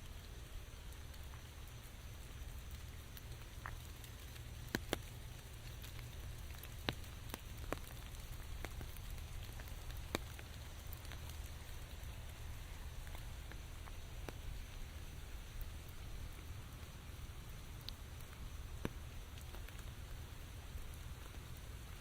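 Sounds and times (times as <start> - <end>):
low steady rumble: 0.0 - 22.0
steady rain: 0.0 - 22.0
raindrops tapping: 0.1 - 22.0.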